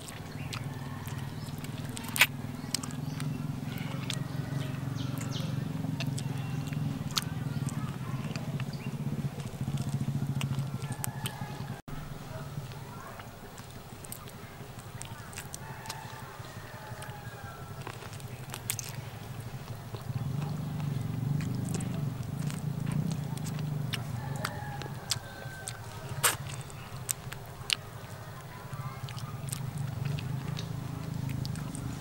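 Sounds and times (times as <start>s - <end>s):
wet smacks and clicks: 0.0s - 11.8s, 13.1s - 32.0s
person chewing meat: 0.0s - 12.0s, 12.9s - 32.0s
muffled rumble from mouth: 0.0s - 32.0s.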